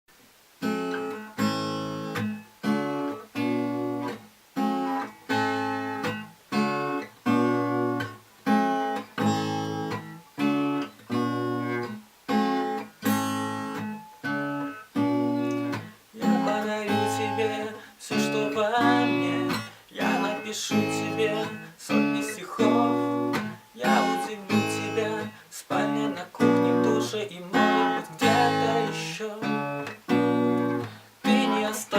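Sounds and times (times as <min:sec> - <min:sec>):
acoustic guitar strumming chords: 0:00.6 - 0:31.9.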